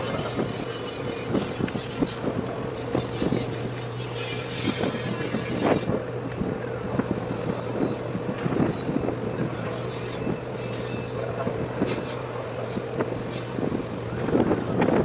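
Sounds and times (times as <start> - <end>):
boat diesel engines humming: 0.0 - 15.0
wind on microphone: 0.0 - 15.0.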